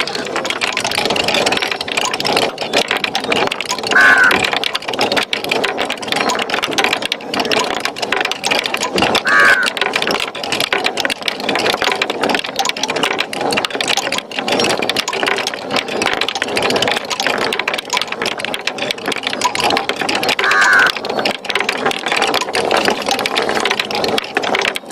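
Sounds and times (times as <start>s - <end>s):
marbles rattling down wooden run: 0.0s - 24.9s.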